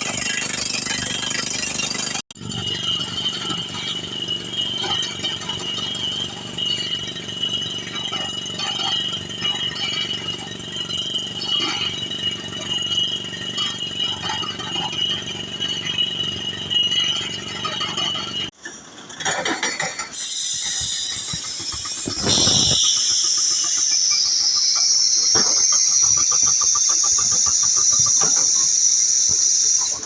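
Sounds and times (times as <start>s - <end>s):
drilling rig engine droning: 0.0s - 18.6s, 20.0s - 30.0s.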